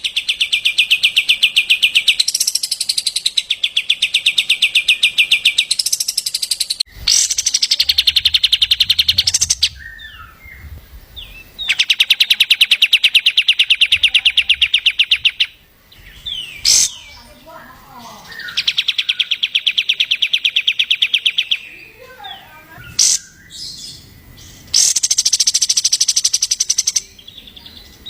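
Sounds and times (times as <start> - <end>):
bird chirps: 0.0 - 28.0
songbird trilling: 0.0 - 28.0.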